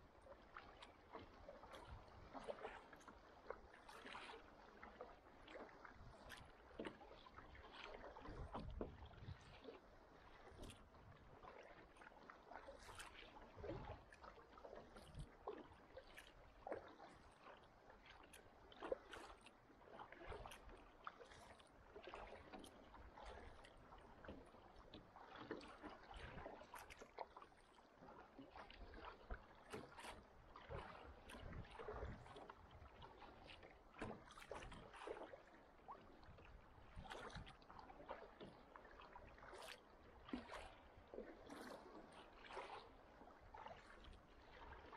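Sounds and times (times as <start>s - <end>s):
kayak paddle splashing: 0.0s - 44.9s
water lapping on hull: 0.0s - 44.9s.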